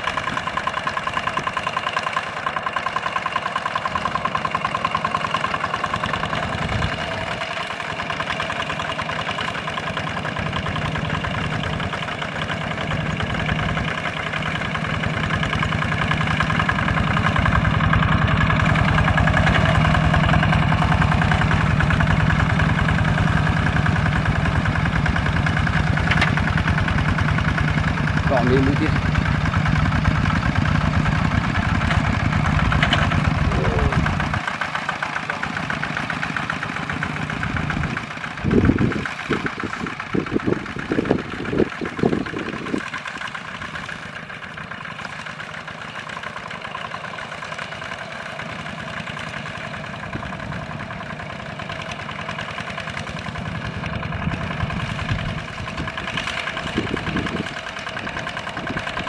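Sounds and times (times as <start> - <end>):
diesel tractor engine chugging: 0.0 - 59.0.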